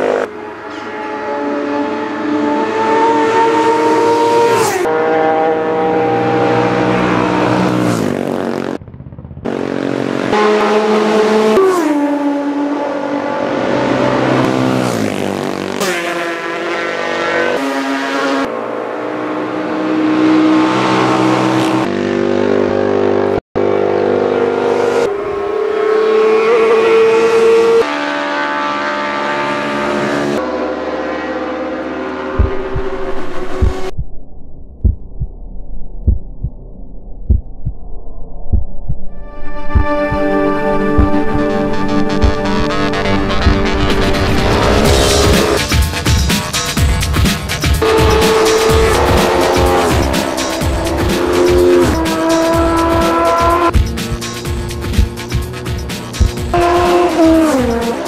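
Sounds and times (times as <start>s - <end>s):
racing motorcycles passing: 0.0s - 33.9s, 39.8s - 58.0s.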